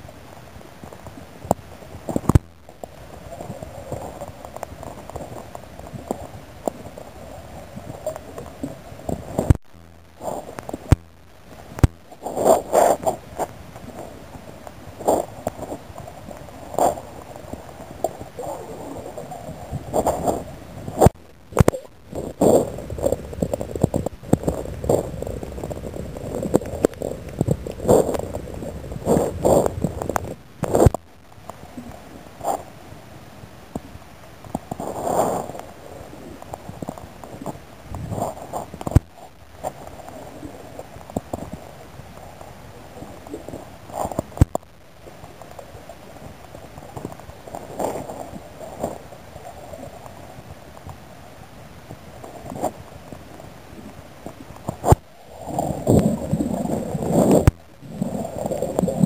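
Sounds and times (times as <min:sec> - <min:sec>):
underwater gurgling rumble: 0:00.0 - 0:59.0.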